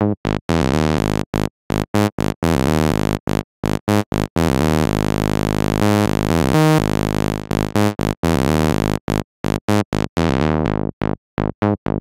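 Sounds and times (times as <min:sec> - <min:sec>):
synth bass line: 0:00.0 - 0:10.9.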